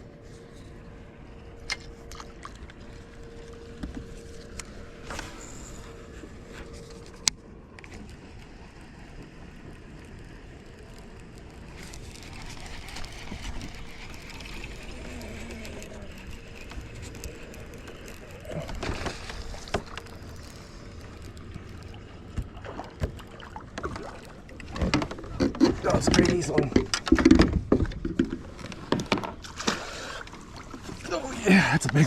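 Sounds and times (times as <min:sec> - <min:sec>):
water lapping against kayak: 0:00.2 - 0:32.0.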